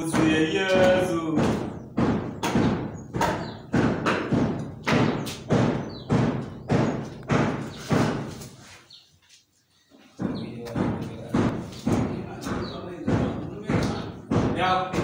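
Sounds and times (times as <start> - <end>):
dull ringing thuds: 0.0 - 8.4, 10.2 - 15.0.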